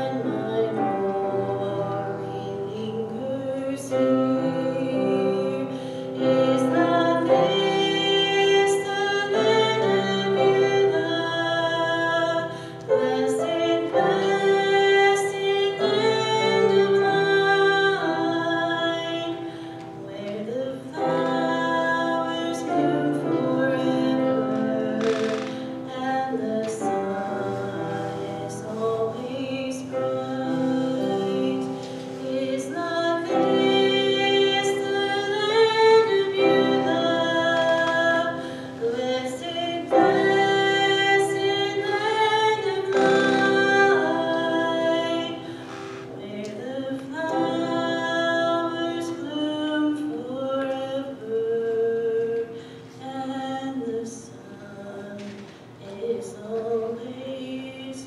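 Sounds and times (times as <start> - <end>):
grand piano: 0.0 - 58.0
woman singing into a microphone: 0.0 - 58.0.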